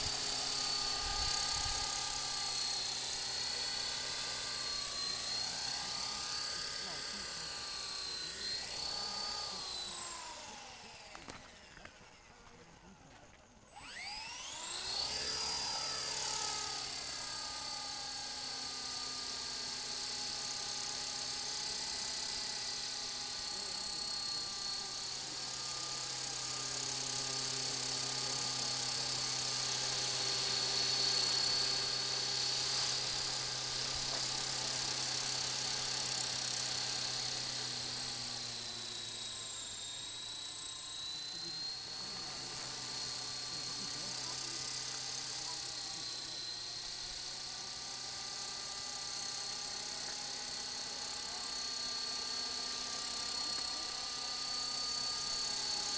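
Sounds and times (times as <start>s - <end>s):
rc helicopter rotor whine: 0.0s - 55.9s.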